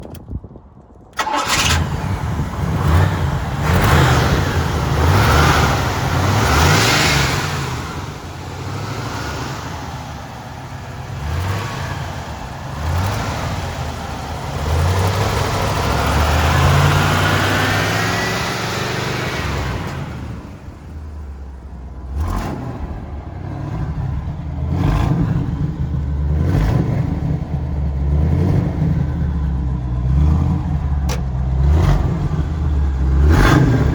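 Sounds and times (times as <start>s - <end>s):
car engine rumbling and revving: 1.2s - 33.9s.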